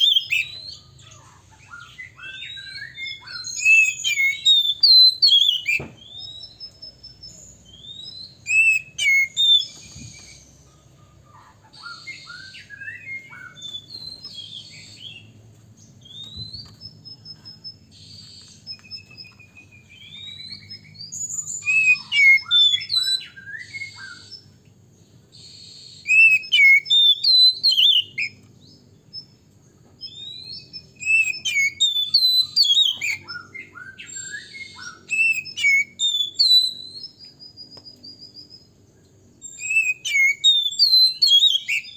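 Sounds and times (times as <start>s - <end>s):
bird singing whistled notes: 0.0s - 11.0s, 11.7s - 24.6s, 25.3s - 41.9s.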